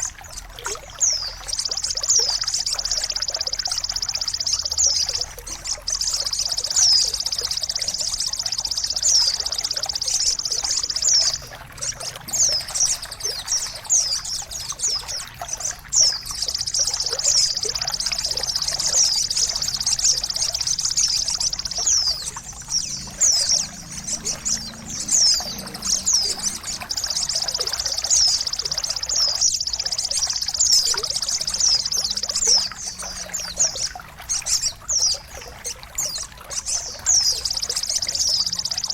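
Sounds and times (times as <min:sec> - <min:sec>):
downward-sweeping bird chirps: 0:00.0 - 0:38.9
trickling water: 0:00.0 - 0:38.9.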